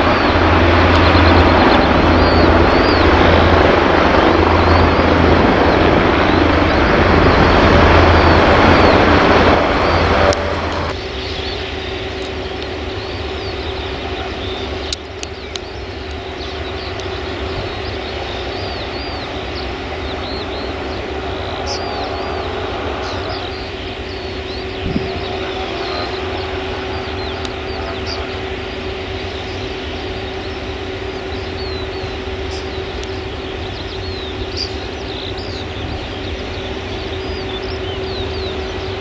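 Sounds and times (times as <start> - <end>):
turboprop engine and propeller noise: 0.0 - 39.0
turboprop taxiing engine hum: 0.0 - 39.0.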